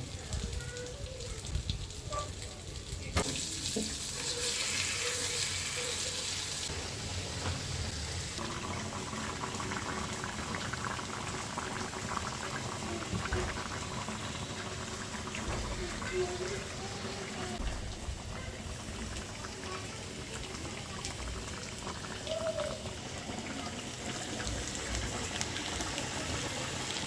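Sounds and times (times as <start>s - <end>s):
food bubbling and sizzling: 0.0s - 27.0s.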